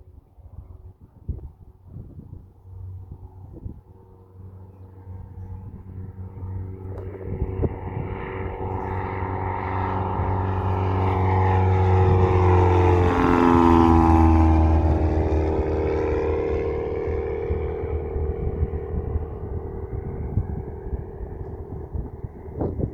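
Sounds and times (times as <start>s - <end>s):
propeller plane passing by: 0.0s - 22.9s.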